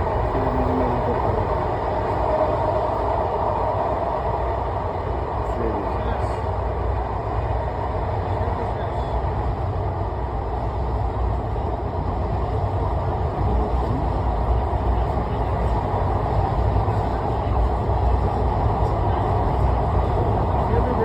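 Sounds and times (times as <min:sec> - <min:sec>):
moving vehicle rumble: 0:00.0 - 0:21.0.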